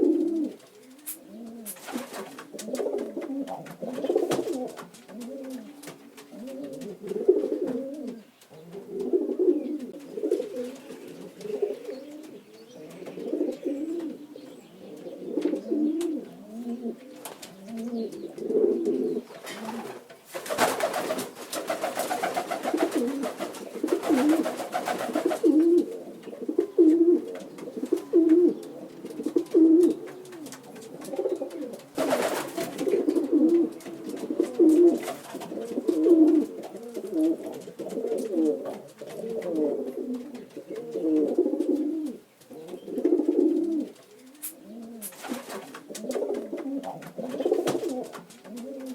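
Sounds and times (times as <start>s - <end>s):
pigeons cooing: 0.0s - 48.9s.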